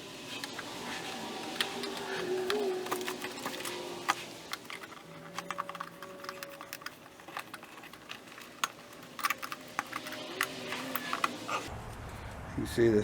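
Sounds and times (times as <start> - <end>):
plastic tabs clicking: 0.4 - 11.7.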